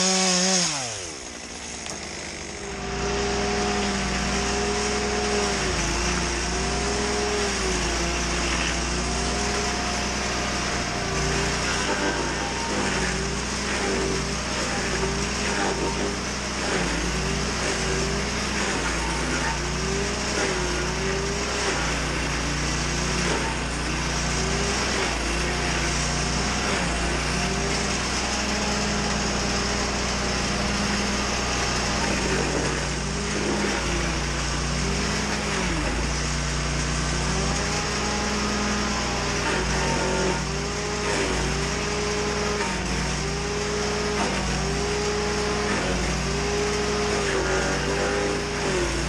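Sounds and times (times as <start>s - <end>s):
small engine running: 0.0s - 49.0s.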